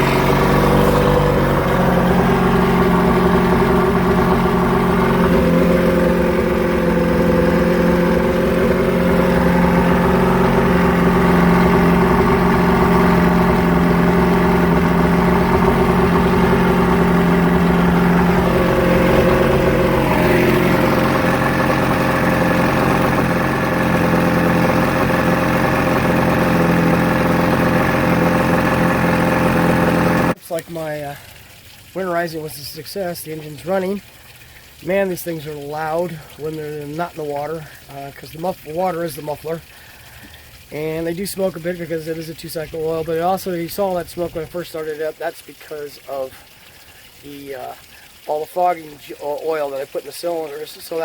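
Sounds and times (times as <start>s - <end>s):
loud outboard motor running: 0.0s - 51.0s.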